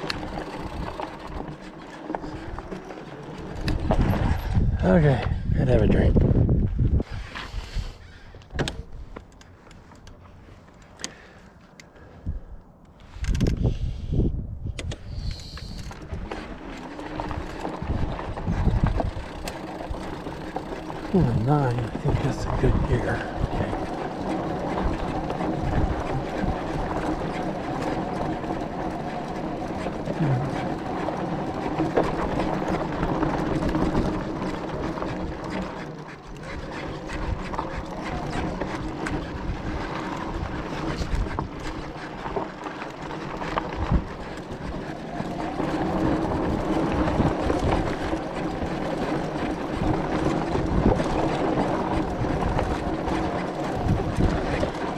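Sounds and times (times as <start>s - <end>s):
bike rattling over rocks: 0.0s - 5.3s, 15.2s - 54.9s.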